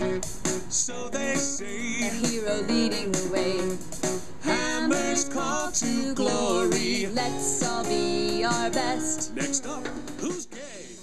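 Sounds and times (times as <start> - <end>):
song with singing and guitar: 0.0 - 11.0.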